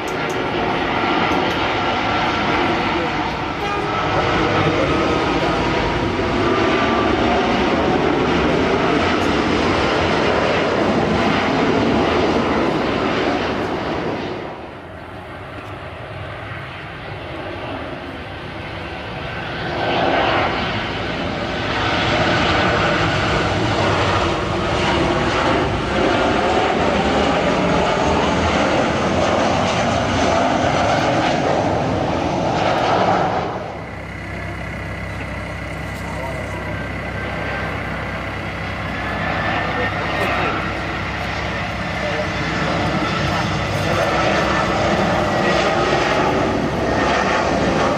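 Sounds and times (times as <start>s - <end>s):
jet airliner roaring overhead: 0.0s - 47.9s.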